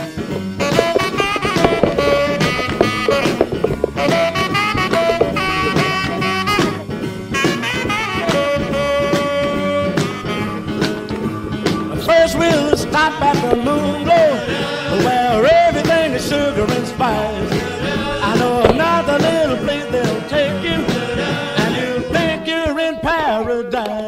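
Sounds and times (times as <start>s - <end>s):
swing jazz music with horns: 0.0s - 22.3s.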